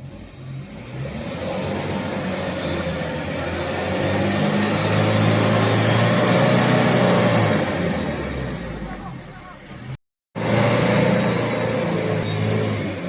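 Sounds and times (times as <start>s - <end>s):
vehicle engine under load: 0.0s - 13.0s.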